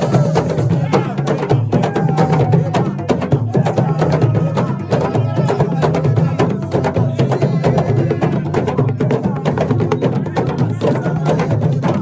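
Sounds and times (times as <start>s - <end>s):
drums: 0.0s - 12.0s.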